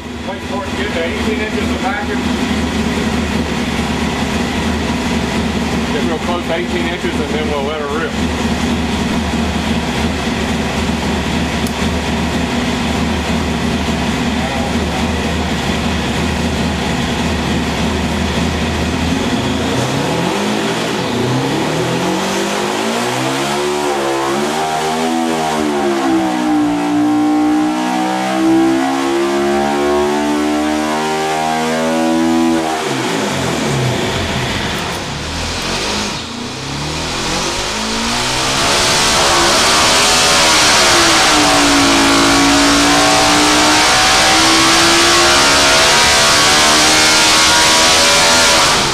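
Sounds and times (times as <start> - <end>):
motorcycle race engine revving: 0.0 - 48.9.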